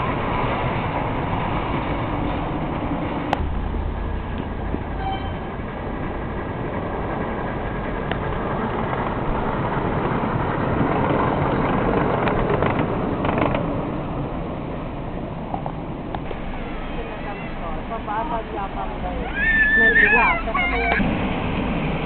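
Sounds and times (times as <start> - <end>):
miniature train rolling rumble: 0.0 - 22.0.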